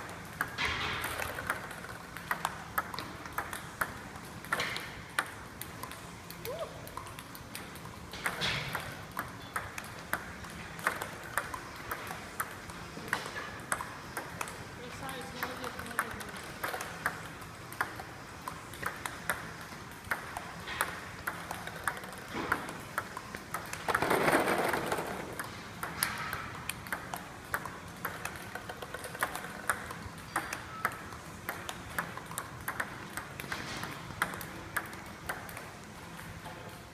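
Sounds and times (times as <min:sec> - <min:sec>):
table tennis ball clicking: 0:00.0 - 0:36.8.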